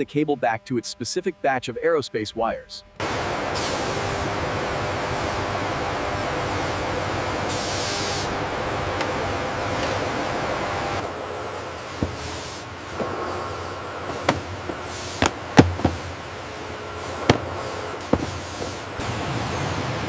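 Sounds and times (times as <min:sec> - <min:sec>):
steady machine noise: 0:00.0 - 0:20.0.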